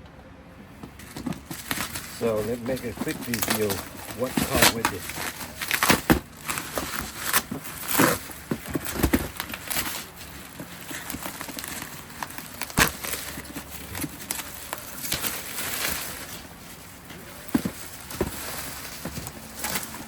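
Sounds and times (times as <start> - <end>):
wrapping crinkling and rustling: 0.8 - 20.0.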